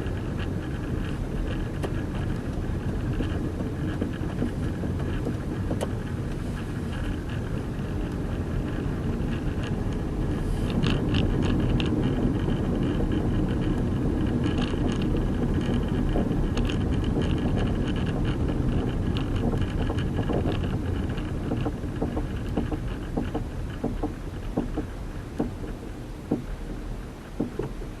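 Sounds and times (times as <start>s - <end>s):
car road and running noise: 0.0s - 28.0s.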